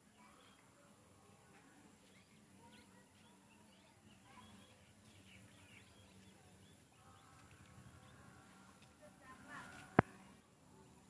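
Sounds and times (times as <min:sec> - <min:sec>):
faint bird chirps: 0:00.0 - 0:11.0
low background noise: 0:00.0 - 0:11.0.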